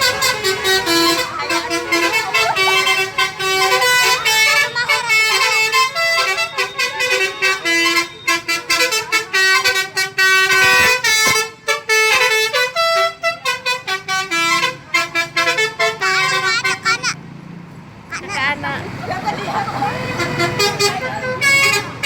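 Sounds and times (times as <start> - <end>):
multi-tone bus air horn tune: 0.0 - 17.1, 19.8 - 22.0.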